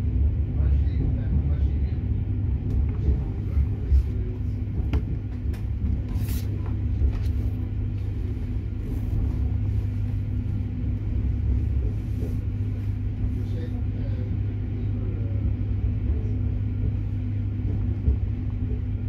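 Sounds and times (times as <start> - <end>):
train cabin low rumble: 0.0 - 19.0.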